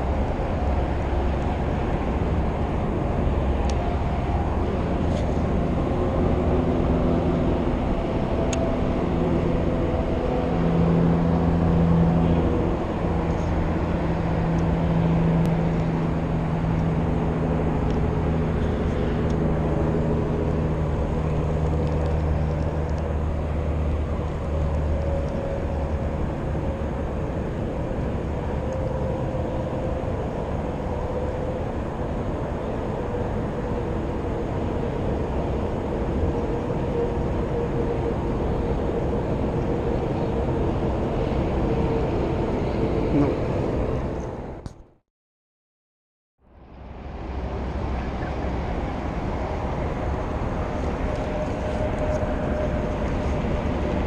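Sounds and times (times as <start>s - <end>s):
low engine drone: 0.0s - 45.0s, 46.4s - 54.0s.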